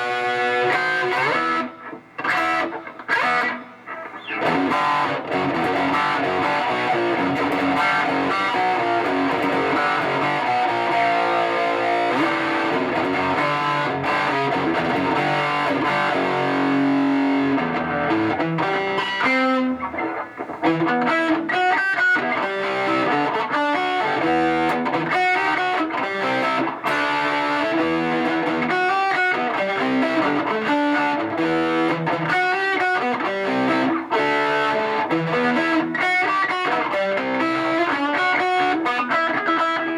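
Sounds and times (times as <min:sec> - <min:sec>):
electric guitar through tube amplifier: 0:00.0 - 0:39.9.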